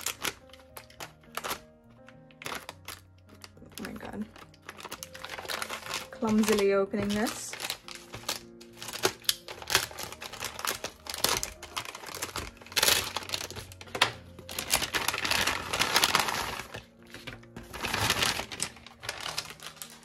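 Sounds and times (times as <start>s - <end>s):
packaging crinkling and rustling: 0.0s - 20.0s.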